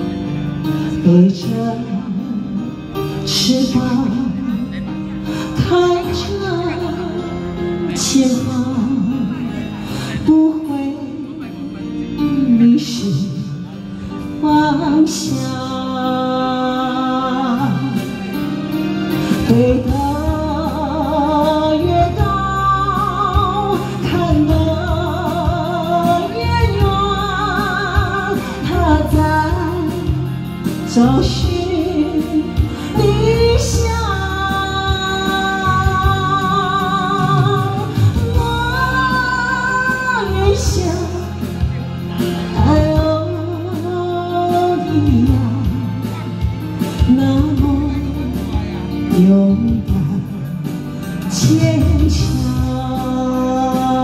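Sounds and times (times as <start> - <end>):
backing music: 0.0 - 54.0
woman singing into a microphone: 0.0 - 54.0.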